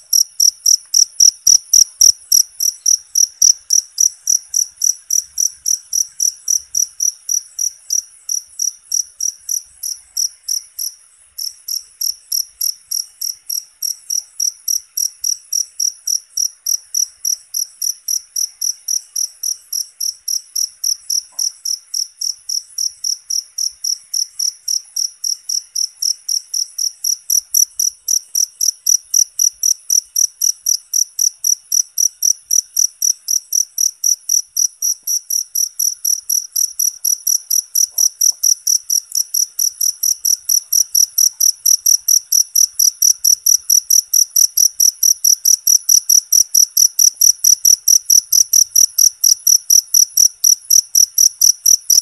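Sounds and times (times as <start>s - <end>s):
cricket chirping: 0.0s - 52.0s.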